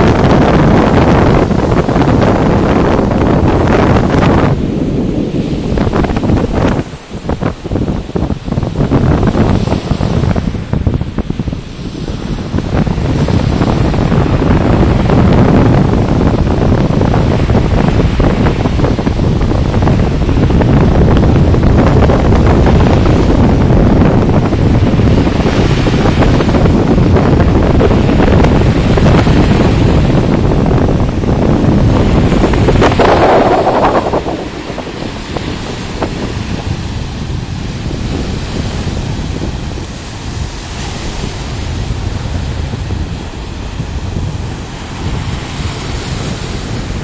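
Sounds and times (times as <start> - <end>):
surf breaking on shore: 0.0 - 47.0
wind buffeting microphone: 0.0 - 47.0.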